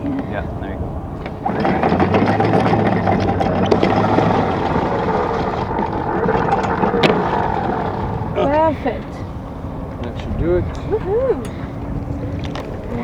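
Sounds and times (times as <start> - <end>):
anchor windlass motor hum: 0.0 - 13.0.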